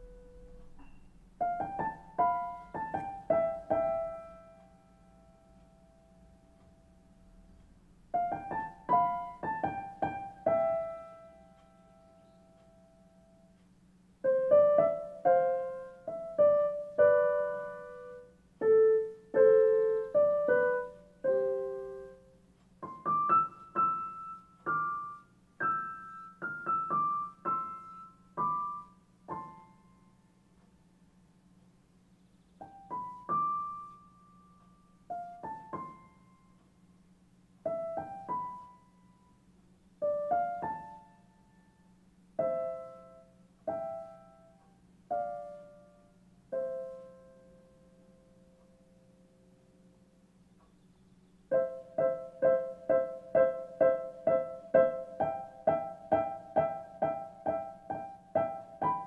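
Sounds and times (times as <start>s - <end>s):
faint steady hum: 0.0s - 59.0s
slow piano music: 0.0s - 59.0s.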